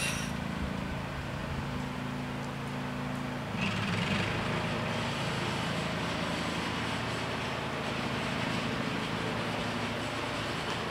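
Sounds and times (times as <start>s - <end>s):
low vehicle rumble: 0.0s - 10.9s.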